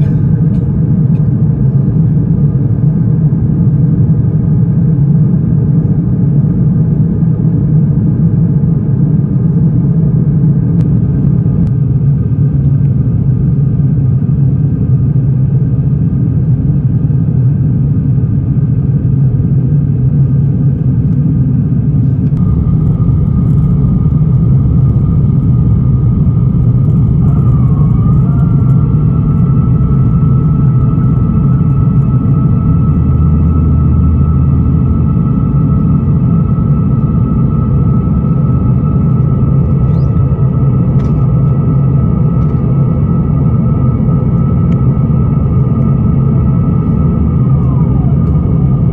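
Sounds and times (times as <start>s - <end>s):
faint steady whine: 0.0s - 48.9s
jet engine and airflow rumble: 0.0s - 48.9s.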